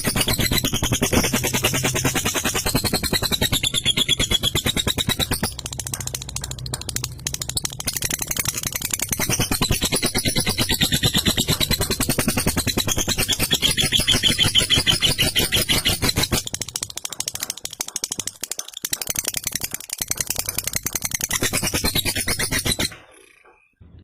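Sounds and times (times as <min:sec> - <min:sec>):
lovebird chattering trill: 0:00.0 - 0:23.5.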